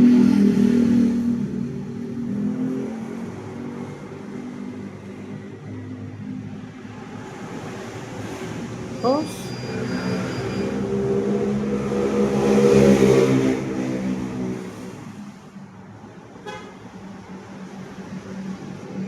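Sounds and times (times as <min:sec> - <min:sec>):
motor vehicle passing by: 0:00.0 - 0:15.4.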